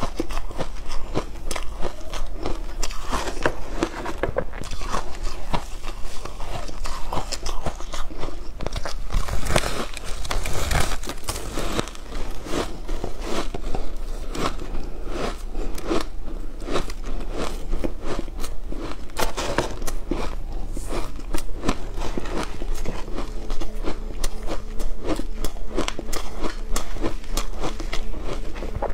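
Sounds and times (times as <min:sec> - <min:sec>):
chewing crunchy shaved ice: 0:00.0 - 0:28.9.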